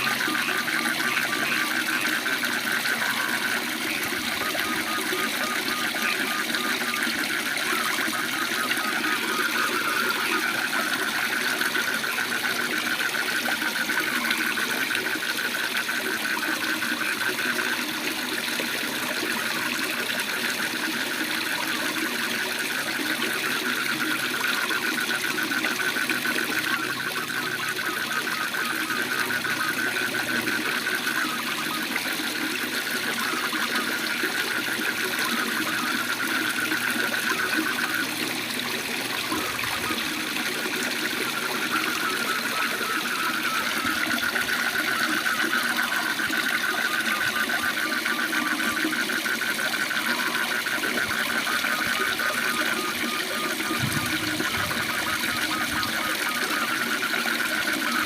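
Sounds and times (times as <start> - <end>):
frogs trilling: 0.0 - 58.0.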